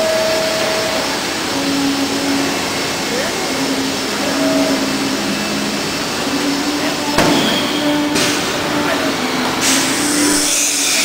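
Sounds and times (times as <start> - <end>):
drilling machine hiss and hum: 0.0 - 11.0.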